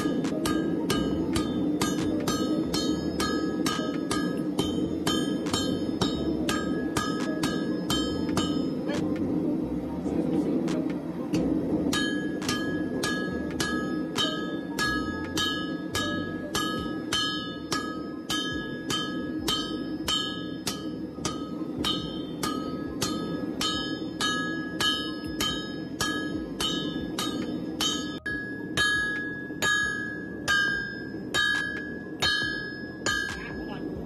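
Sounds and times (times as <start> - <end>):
anvil ringing: 0.0 - 9.0, 11.9 - 34.0
hammers striking steel on anvil: 0.0 - 9.1, 10.7 - 34.0.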